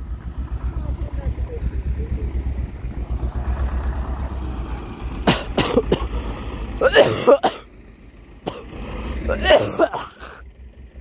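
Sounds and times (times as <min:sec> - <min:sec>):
tractor engine rumbling: 0:00.0 - 0:11.0.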